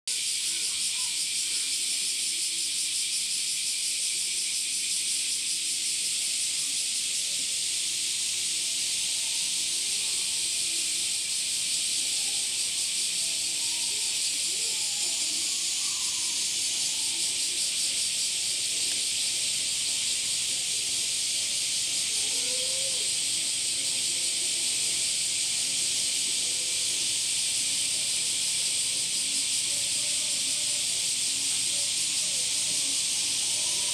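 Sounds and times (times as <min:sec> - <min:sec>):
steady high-pitched hiss: 0:00.1 - 0:33.9.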